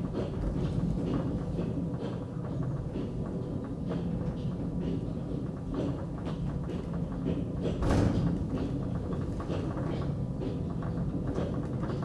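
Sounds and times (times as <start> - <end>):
rail clacks and clatter: 0.0 - 12.0.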